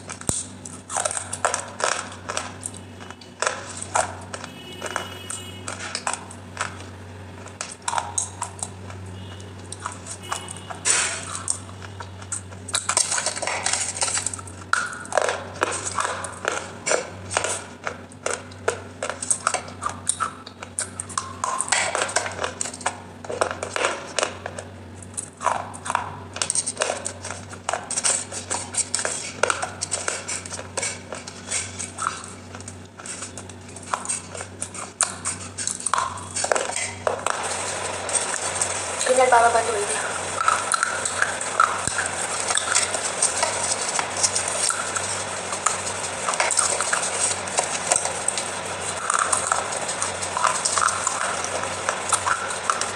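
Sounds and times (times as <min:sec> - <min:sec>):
chewing and crunching: 0:00.0 - 0:52.9
faint steady hum: 0:00.0 - 0:52.9.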